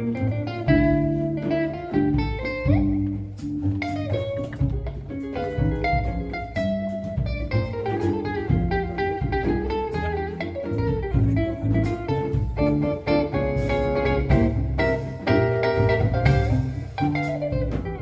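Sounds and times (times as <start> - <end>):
electric guitar line: 0.0 - 18.0
jazz quartet playing: 0.0 - 18.0
walking double bass: 0.0 - 18.0.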